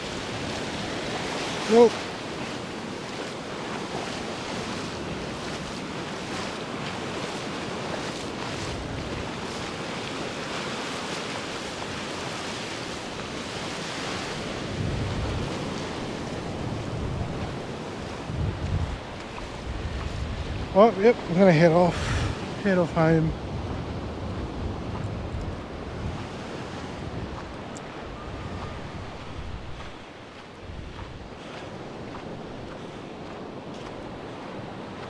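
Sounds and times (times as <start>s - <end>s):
ocean surf washing: 0.0s - 35.0s
wind buffeting microphone: 0.0s - 35.0s.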